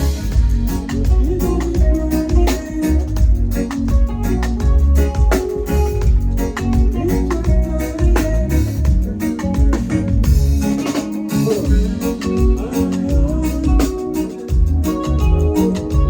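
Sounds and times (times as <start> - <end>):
heavy bass line: 0.0 - 16.0
loud band music: 0.0 - 16.0
steady drum beats: 0.0 - 16.0.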